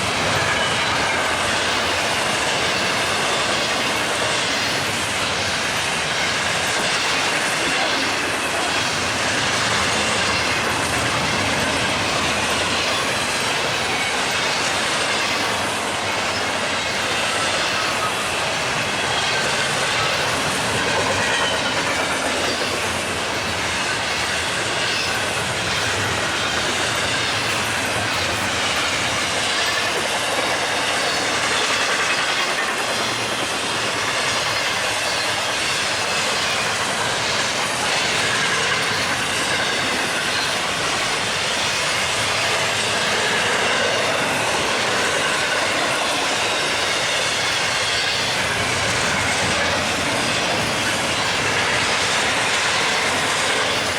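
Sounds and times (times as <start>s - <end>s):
train wheels rushing on rail: 0.0s - 53.9s.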